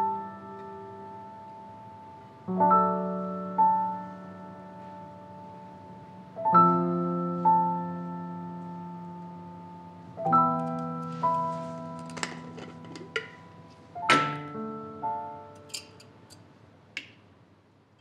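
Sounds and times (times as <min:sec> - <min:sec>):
slow piano music: 0:00.0 - 0:16.8.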